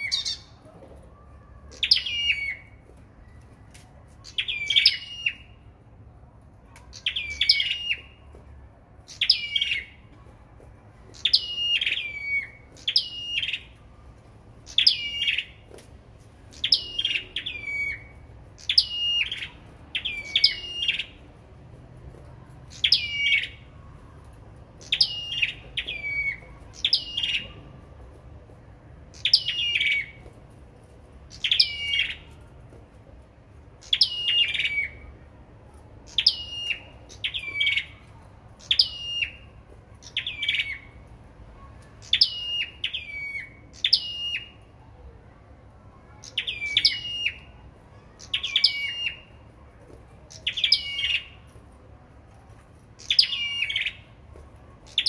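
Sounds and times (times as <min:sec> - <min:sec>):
songbirds singing: 0:00.0 - 0:30.4, 0:31.1 - 0:32.8, 0:33.5 - 0:51.7, 0:52.4 - 0:55.0.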